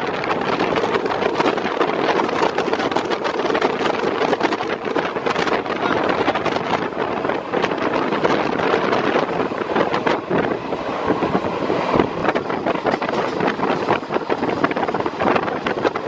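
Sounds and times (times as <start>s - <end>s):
train rumbling and rattling on track: 0.0s - 16.0s
wind buffeting microphone: 0.0s - 16.0s.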